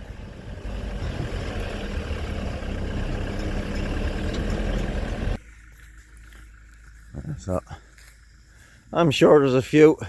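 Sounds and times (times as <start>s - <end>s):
truck engine running: 0.0s - 9.9s.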